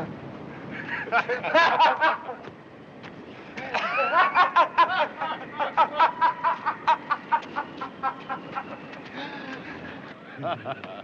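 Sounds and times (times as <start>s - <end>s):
men laughing: 0.6s - 2.5s, 3.5s - 11.0s.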